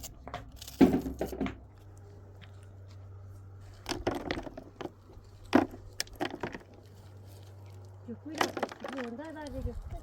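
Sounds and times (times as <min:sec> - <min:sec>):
stones knocking and scraping: 0:00.0 - 0:02.6, 0:03.6 - 0:10.0
low steady hum: 0:00.0 - 0:10.0.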